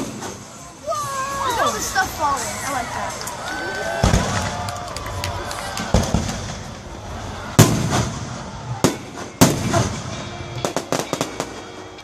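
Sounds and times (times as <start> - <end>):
fireworks bursting bangs: 0.0 - 0.8, 1.4 - 12.0
fireworks crackles: 0.0 - 12.0.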